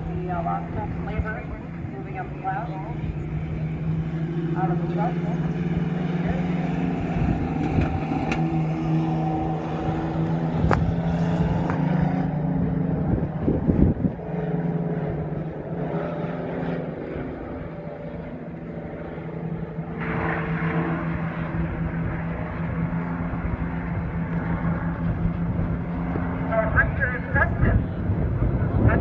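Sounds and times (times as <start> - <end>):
mini truck engines droning: 0.0 - 29.0.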